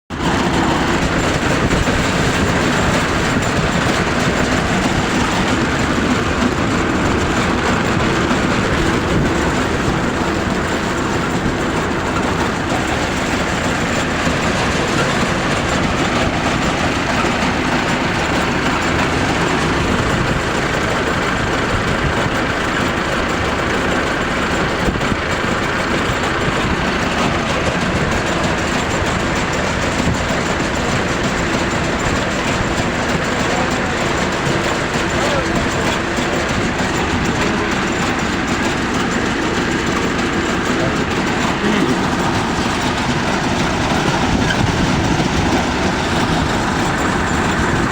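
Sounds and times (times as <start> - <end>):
threshing machine clattering: 0.1 - 47.9.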